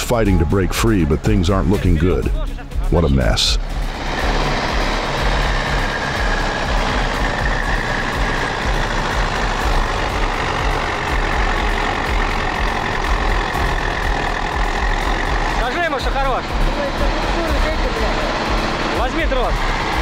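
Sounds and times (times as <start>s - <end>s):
diesel tractor engine under load: 3.2s - 20.0s.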